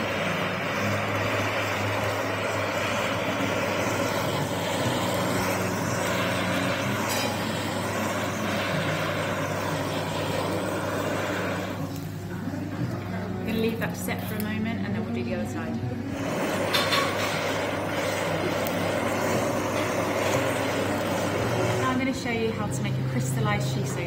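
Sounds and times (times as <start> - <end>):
blowtorch hissing: 0.0 - 24.0.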